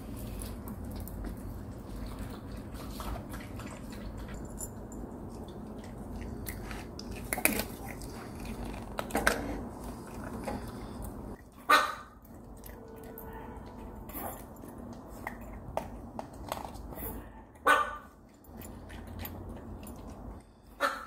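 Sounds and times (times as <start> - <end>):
dogs eating dry kibble: 0.0 - 21.0.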